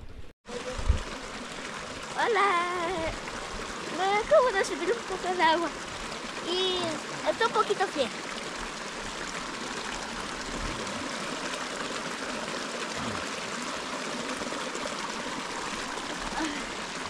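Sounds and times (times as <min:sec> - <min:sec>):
spring water running: 0:00.5 - 0:17.0.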